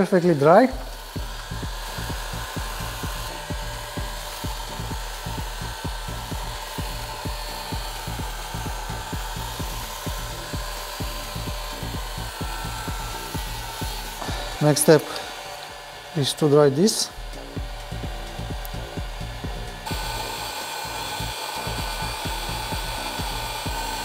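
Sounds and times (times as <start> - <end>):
hot air gun blowing: 0.0 - 24.0.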